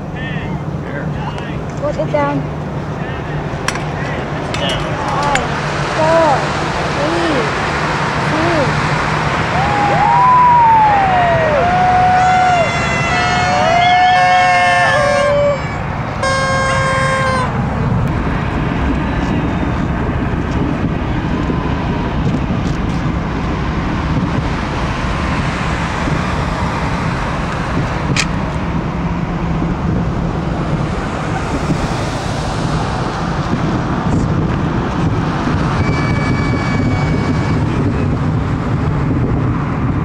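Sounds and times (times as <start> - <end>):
road traffic rumble: 0.0 - 40.0
wind on microphone: 3.4 - 40.0.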